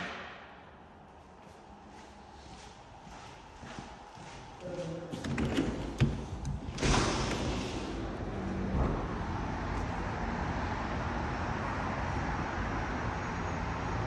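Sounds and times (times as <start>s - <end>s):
city traffic: 0.0s - 14.0s.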